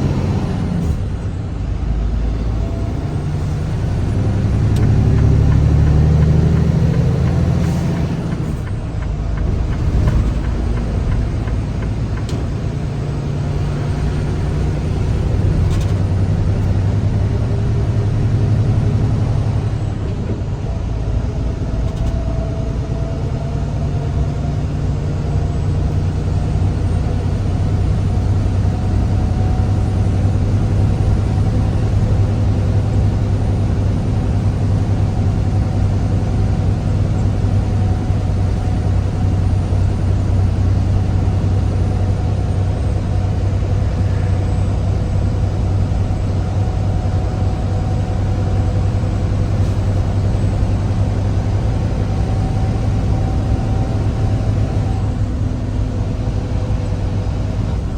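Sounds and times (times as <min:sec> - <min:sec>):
road noise: 0:00.0 - 0:57.9
truck diesel engine: 0:00.0 - 0:57.9.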